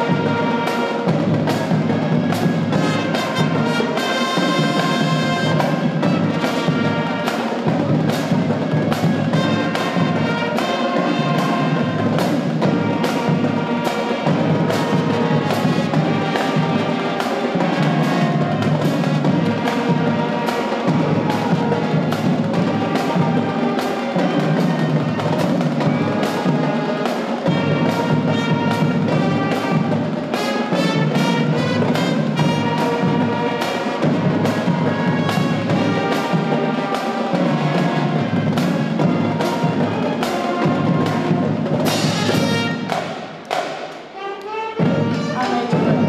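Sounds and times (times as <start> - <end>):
drum and cymbal hits: 0.0 - 46.0
marching band playing: 0.0 - 46.0.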